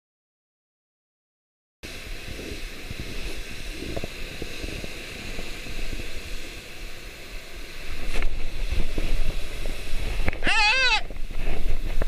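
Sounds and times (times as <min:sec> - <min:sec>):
sea surf on rocks: 0:01.8 - 0:12.0
wind rumbling on microphone: 0:01.8 - 0:12.0.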